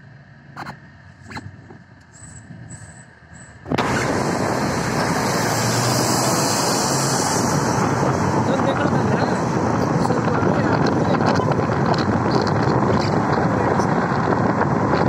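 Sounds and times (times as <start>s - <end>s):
traffic noise: 0.0s - 15.0s
wind rush on microphone: 1.2s - 15.0s.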